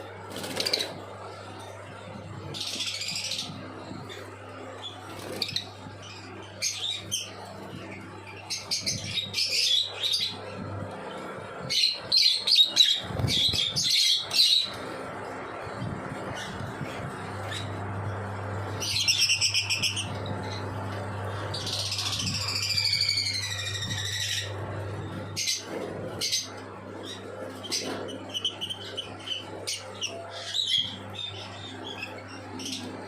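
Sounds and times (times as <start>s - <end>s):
steady low hum: 0.0s - 33.0s
bird chicks chirping: 2.2s - 33.0s.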